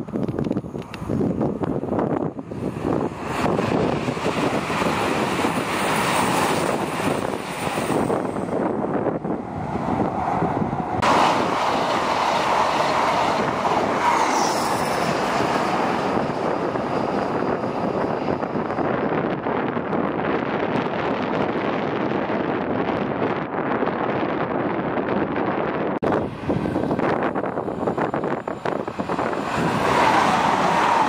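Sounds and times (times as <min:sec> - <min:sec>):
diesel train passing at speed: 0:00.0 - 0:31.0.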